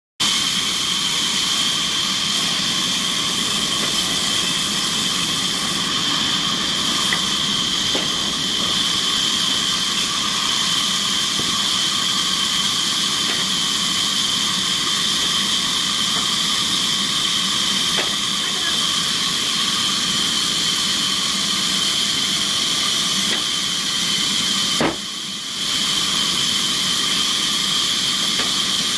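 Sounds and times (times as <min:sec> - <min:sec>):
band saw cutting log: 0:00.8 - 0:23.7, 0:24.3 - 0:25.1, 0:26.0 - 0:28.9.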